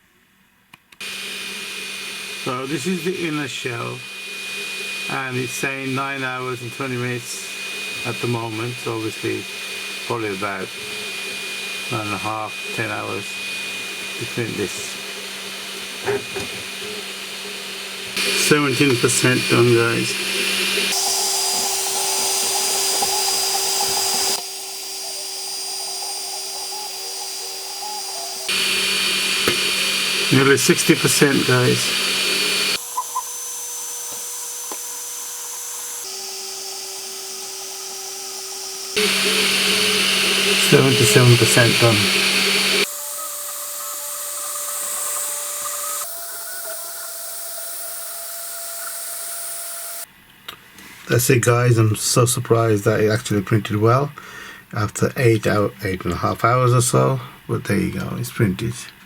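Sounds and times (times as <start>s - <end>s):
printer fans and motors whirring: 1.0s - 50.0s.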